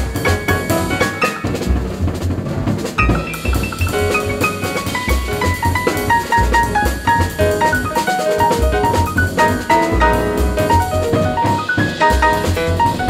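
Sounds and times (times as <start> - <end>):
background music with drum beat: 0.0 - 13.0.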